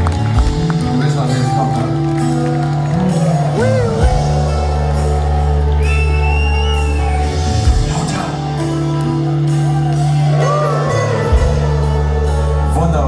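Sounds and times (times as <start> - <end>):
audience whooping and shouting: 0.0 - 13.0
rock band playing instrumental: 0.0 - 13.0.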